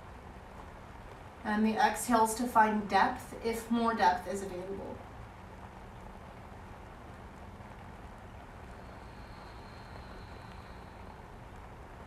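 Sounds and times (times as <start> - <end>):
faint high whine: 0.0 - 12.0
room hiss and low hum: 0.0 - 12.0.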